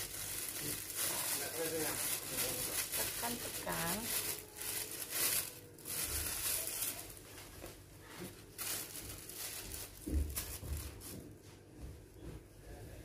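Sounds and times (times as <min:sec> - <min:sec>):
plastic glove crinkling: 0:00.0 - 0:11.4.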